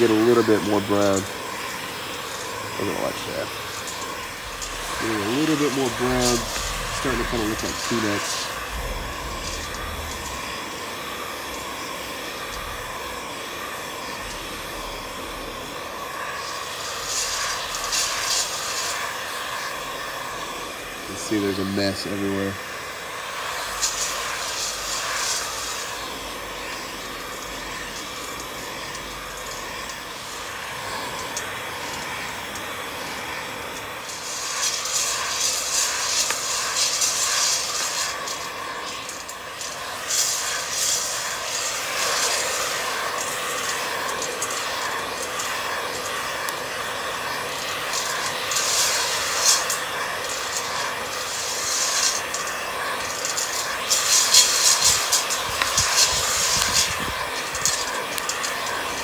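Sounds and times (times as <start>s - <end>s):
coffee beans rattling in steel bowl: 0.0s - 59.0s
heat gun blowing: 0.0s - 59.0s.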